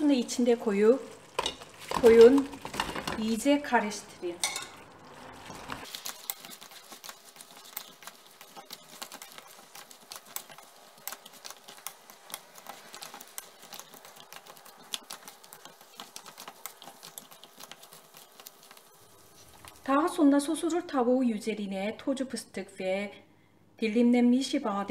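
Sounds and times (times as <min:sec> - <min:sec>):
sauce crackling in a frying pan: 0:00.0 - 0:20.1.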